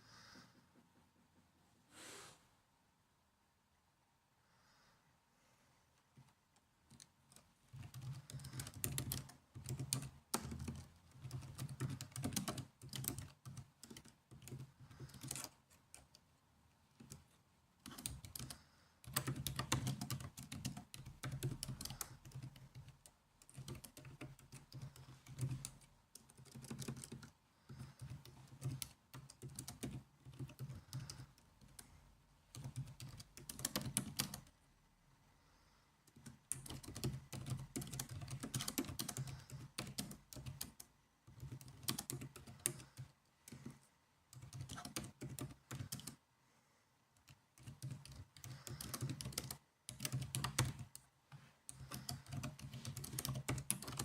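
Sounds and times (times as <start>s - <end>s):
laptop keyboard typing: 6.2s - 16.3s, 16.9s - 34.6s, 36.1s - 46.2s, 47.2s - 54.0s.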